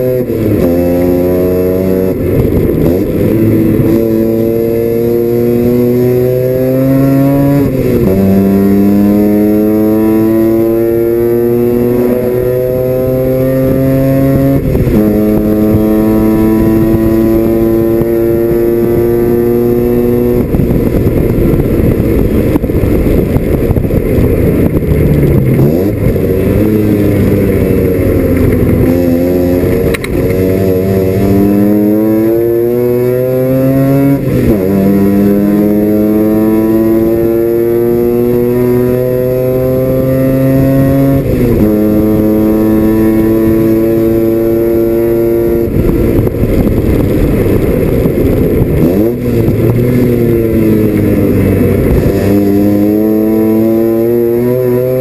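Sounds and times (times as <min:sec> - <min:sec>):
rotary race car engine revving: 0:00.0 - 0:55.0.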